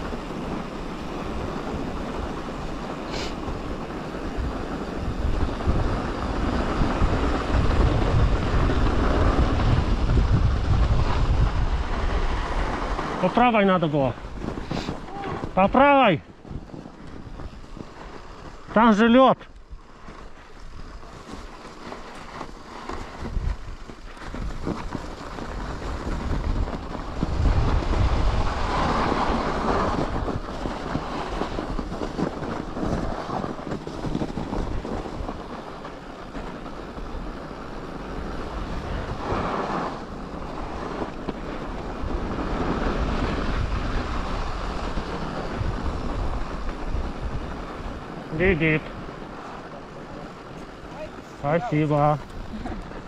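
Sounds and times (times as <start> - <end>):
bike tyres rolling on snow: 0.0 - 53.0
wind on microphone: 0.0 - 53.0.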